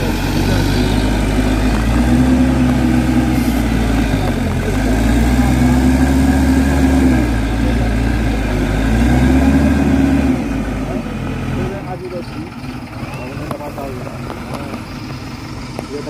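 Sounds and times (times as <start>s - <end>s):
diesel engine running: 0.0s - 16.0s
higher droning tone: 0.0s - 16.0s.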